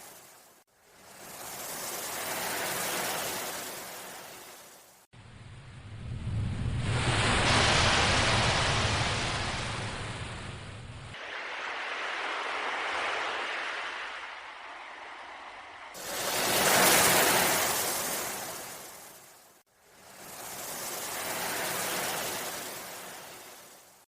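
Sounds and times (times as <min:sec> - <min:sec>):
ocean waves washing: 0:00.0 - 0:05.1, 0:05.9 - 0:24.0.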